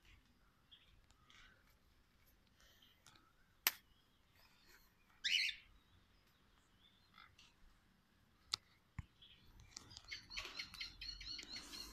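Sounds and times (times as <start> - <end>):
faint bird chirps: 0.0 - 1.8, 2.6 - 7.7, 8.3 - 11.9.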